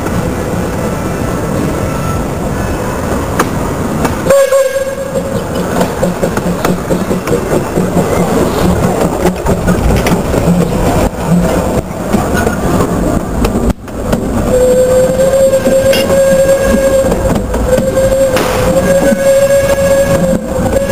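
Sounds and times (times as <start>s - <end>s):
rail joint clicks: 0.0s - 20.9s
train wheels rumbling on rails: 0.0s - 20.9s.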